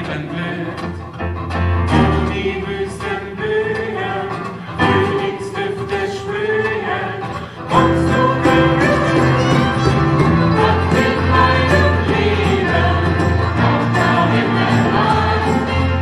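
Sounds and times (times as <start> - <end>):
voices singing: 0.0 - 1.0, 2.0 - 16.0
acoustic band playing: 0.0 - 16.0.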